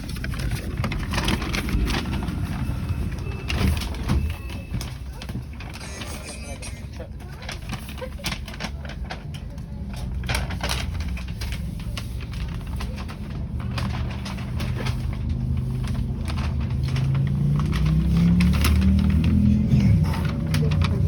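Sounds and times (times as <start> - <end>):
tram motor hum: 0.0 - 8.0, 8.6 - 21.0.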